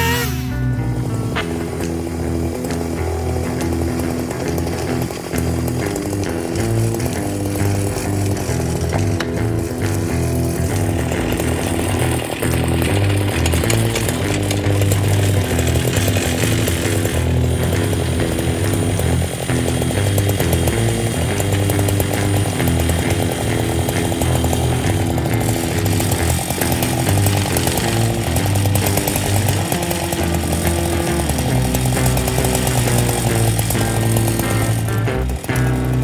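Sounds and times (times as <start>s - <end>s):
background music with bass line: 0.0s - 36.0s
chainsaw mill cutting: 0.0s - 36.0s.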